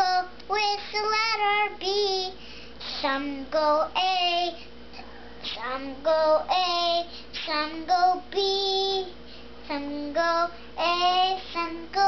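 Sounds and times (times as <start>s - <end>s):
young girl singing: 0.0s - 12.0s.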